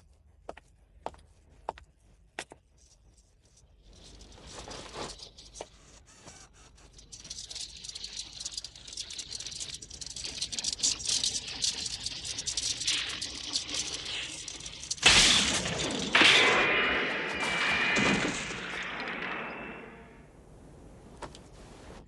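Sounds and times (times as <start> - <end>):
crackling rattling hiss: 2.8 - 22.0.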